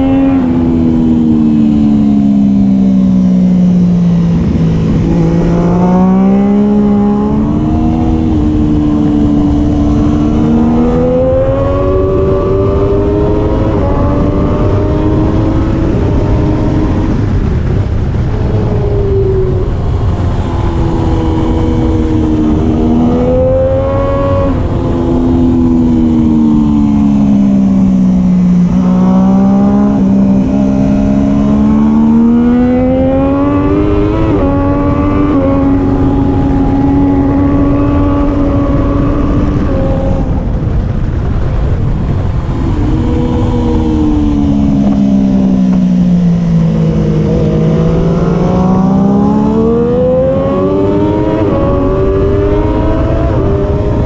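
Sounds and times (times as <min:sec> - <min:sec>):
low rushing noise: 0:00.0 - 0:54.0
motorcycle engine racing: 0:00.0 - 0:54.0.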